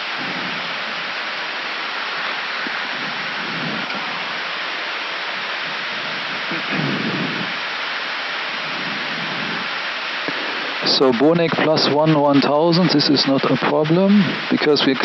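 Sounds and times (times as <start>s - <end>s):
air-conditioning noise: 0.0s - 15.0s
rushing airflow: 0.0s - 15.0s.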